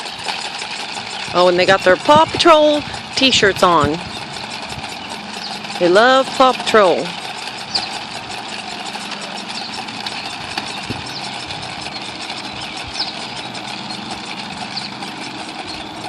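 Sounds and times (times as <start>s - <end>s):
engine-like running hum: 0.0s - 16.0s.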